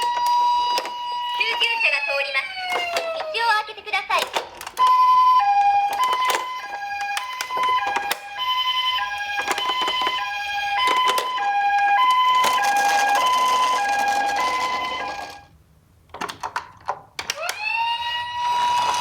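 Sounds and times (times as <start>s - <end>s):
toy two-tone siren: 0.0s - 3.3s, 4.8s - 15.5s, 17.3s - 19.0s.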